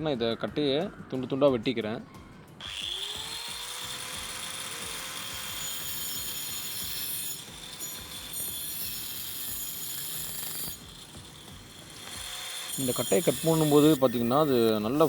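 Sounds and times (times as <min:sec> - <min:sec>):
power saw cutting wood: 0:02.6 - 0:15.0.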